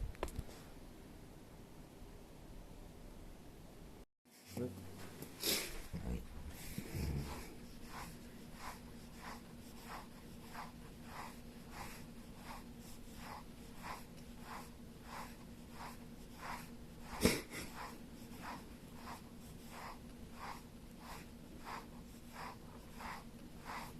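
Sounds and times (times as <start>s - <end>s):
soft rhythmic scratching: 4.4s - 23.9s.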